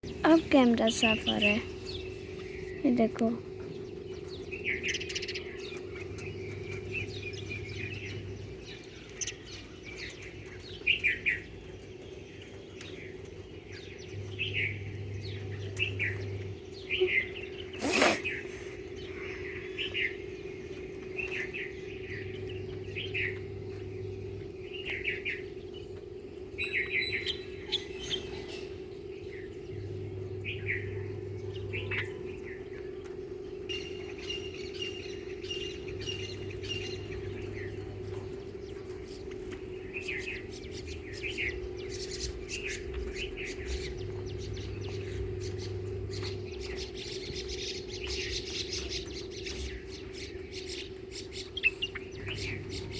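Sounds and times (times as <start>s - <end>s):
lower hum: 0.0s - 52.9s
small birds chirping: 0.0s - 52.9s
steady low hum: 0.0s - 52.9s.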